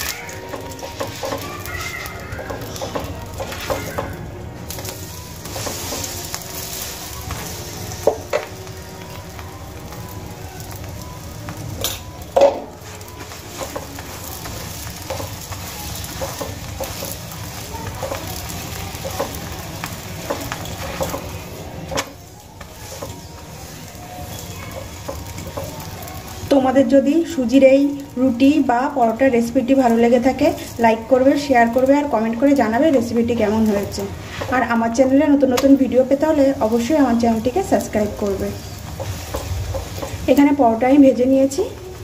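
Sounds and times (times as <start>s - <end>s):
flatbread sizzling in oil: 0.0s - 42.0s.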